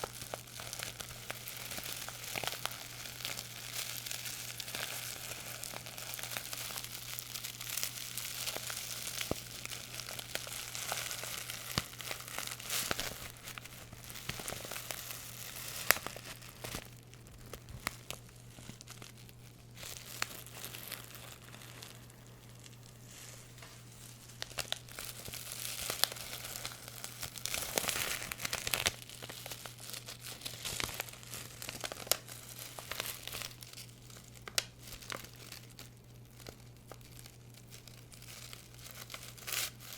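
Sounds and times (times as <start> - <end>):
faint low hum: 0.0 - 39.9
material crinkling and rustling: 0.0 - 39.9.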